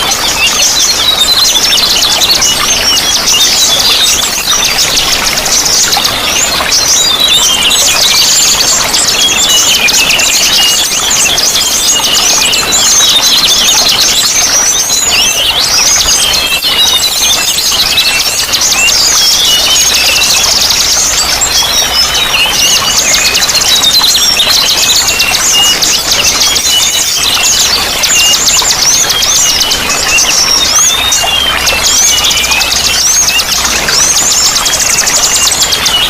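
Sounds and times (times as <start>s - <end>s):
running water: 0.0s - 36.0s
songbirds chirping and trilling: 0.0s - 36.0s.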